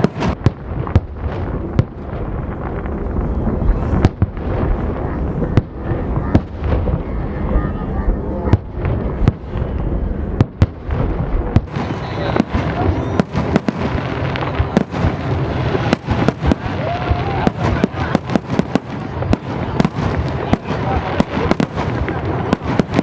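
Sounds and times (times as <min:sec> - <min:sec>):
continuous rumble: 0:00.0 - 0:23.0
fireworks bangs: 0:00.0 - 0:23.0.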